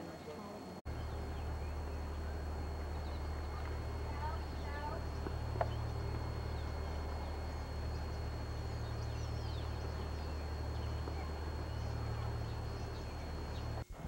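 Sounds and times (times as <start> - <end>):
thin high whine: 0.0 - 14.0
faint bird chirps: 0.9 - 13.8
steady low rumble: 0.9 - 14.0.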